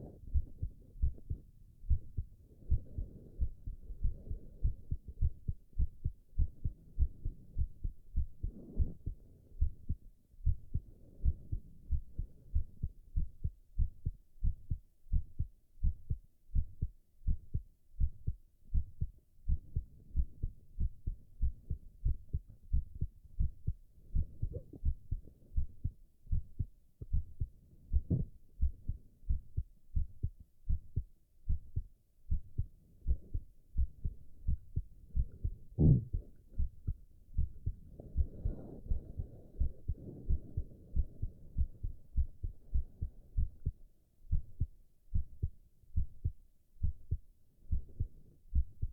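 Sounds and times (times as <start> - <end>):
heartbeat thumps: 0.0 - 48.9.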